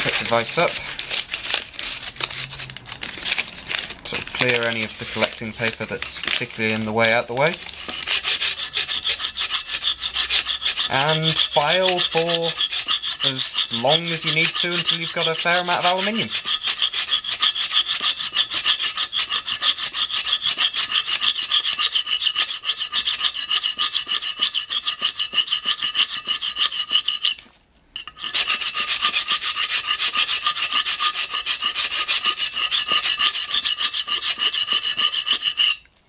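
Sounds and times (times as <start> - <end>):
hand file rasping on metal: 0.0 - 1.0, 4.1 - 6.0, 7.7 - 27.4, 28.0 - 35.8.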